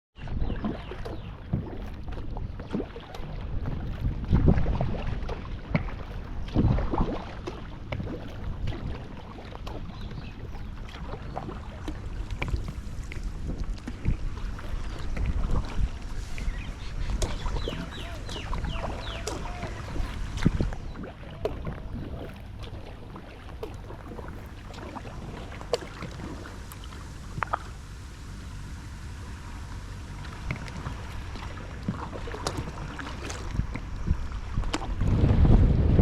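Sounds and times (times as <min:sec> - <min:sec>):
sea waves lapping at shore: 0:00.2 - 0:36.0
small water splashes: 0:00.2 - 0:36.0.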